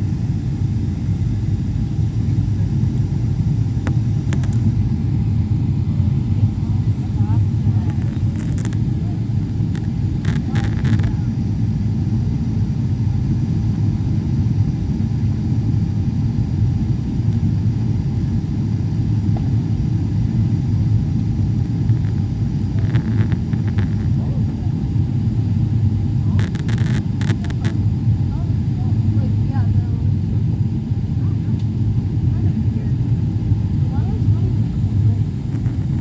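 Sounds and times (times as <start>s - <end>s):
airliner cabin rumble: 0.0s - 36.0s.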